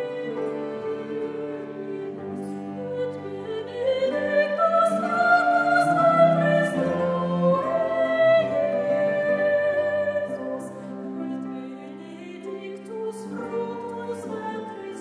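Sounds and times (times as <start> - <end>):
slow classical music: 0.0 - 15.0.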